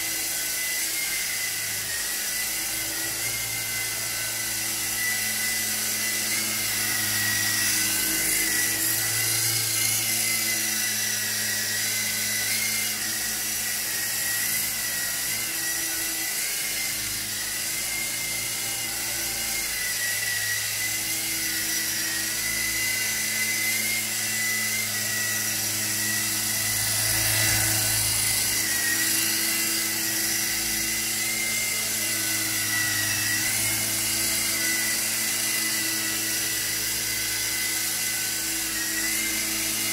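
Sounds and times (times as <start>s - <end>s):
toy helicopter rotor whine: 0.0s - 39.9s.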